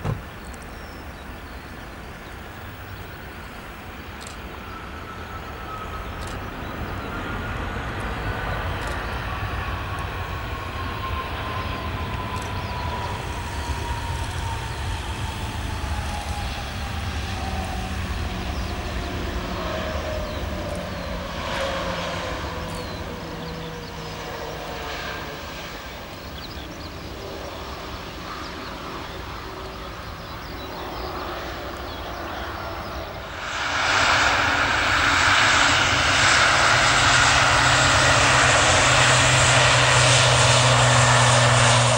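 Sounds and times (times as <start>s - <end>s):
jet engines whining: 1.9s - 41.9s
turboprop engine: 1.9s - 41.9s.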